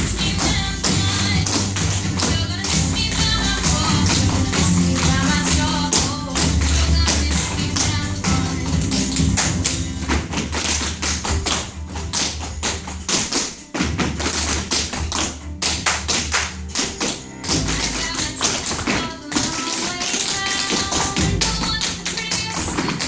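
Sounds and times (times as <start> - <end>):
recorded music: 0.0 - 23.0
tap shoes on wooden floor: 0.0 - 23.0.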